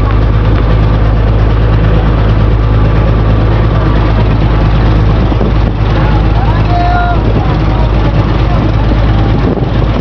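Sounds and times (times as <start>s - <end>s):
boat engine humming: 0.0s - 10.0s
constant rushing noise: 0.0s - 10.0s.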